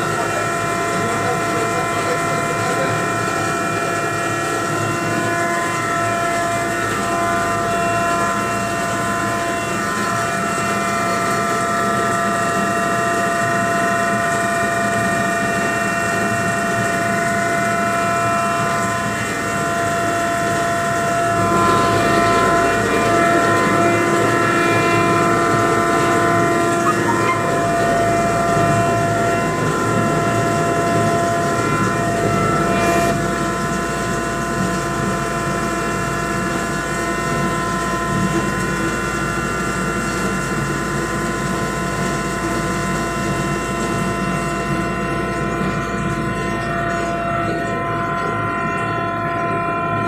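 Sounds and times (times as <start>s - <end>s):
grinding machine running: 0.0s - 50.0s.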